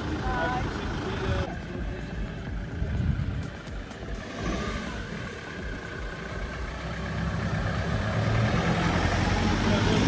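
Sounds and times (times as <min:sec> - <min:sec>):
car engine driving slowly: 0:00.0 - 0:10.0.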